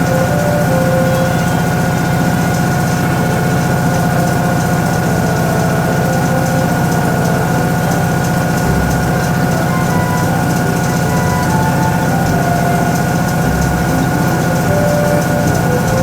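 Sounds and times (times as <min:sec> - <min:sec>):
faint high whine: 0:00.0 - 0:16.0
washing machine motor hum: 0:00.0 - 0:16.0.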